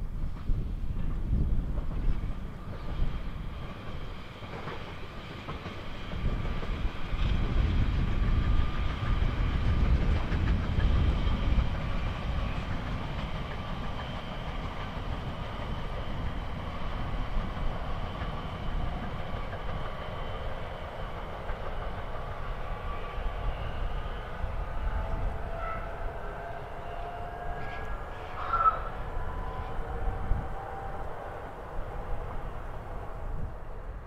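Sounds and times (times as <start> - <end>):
high tones from train wheels: 0.0 - 34.0
train rumbling past: 0.0 - 34.0.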